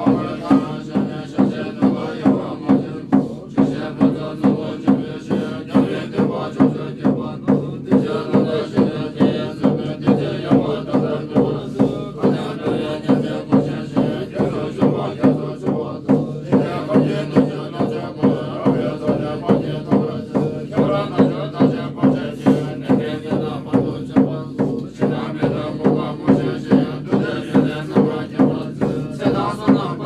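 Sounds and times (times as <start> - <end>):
drum beaten steadily: 0.0 - 30.0
monks chanting in low voices: 0.0 - 30.0.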